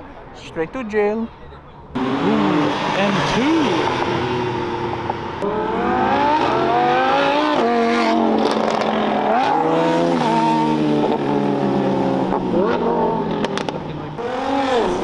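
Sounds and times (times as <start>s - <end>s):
car engine revving: 1.9s - 15.0s.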